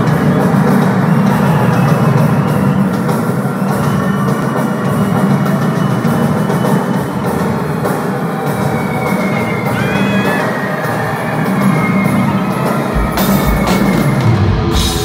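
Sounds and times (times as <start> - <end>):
loud rock music with drums: 0.0 - 15.0.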